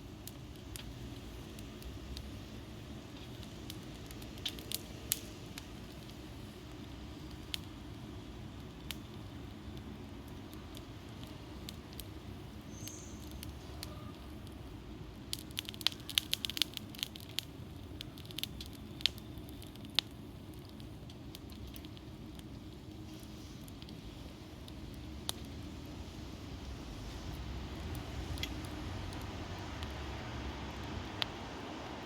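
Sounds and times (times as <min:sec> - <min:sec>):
low steady rumble: 0:00.0 - 0:32.0
wood fire crackling and popping: 0:00.0 - 0:32.0.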